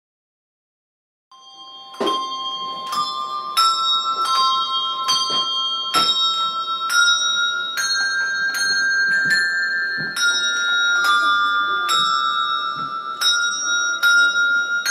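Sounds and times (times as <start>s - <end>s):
bells ringing climbing notes: 1.3s - 14.9s.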